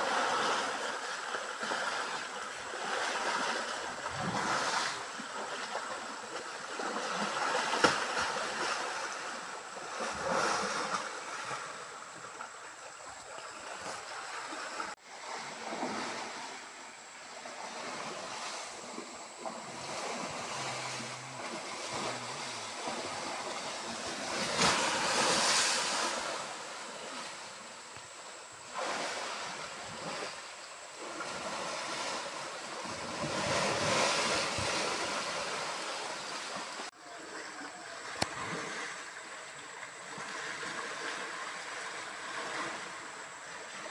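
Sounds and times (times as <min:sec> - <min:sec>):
stream water rushing: 0:00.0 - 0:43.9.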